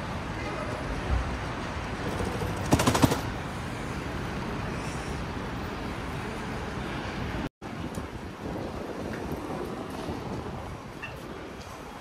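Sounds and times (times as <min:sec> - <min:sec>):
traffic: 0:00.0 - 0:12.0
wind: 0:00.0 - 0:12.0.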